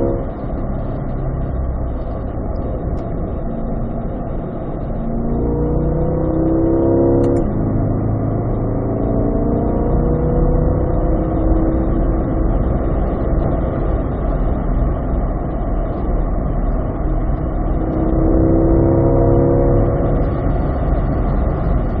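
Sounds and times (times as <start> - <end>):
car engine accelerating hard: 0.0 - 22.0
wind and tyre noise: 0.0 - 22.0.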